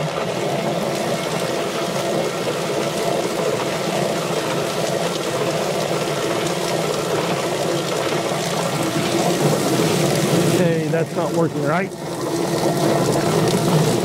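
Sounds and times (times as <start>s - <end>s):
hose water hissing and splashing: 0.0s - 14.0s.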